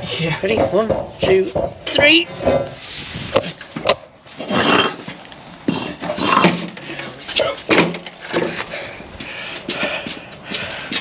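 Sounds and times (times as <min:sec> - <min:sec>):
footsteps: 0:00.0 - 0:11.0.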